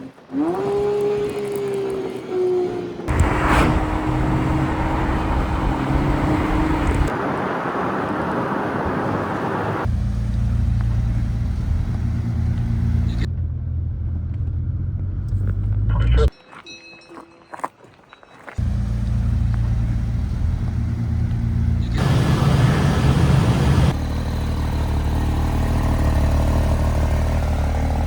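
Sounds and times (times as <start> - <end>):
car engine humming: 0.0 - 16.0, 18.6 - 28.0
road and wind noise: 0.0 - 28.0.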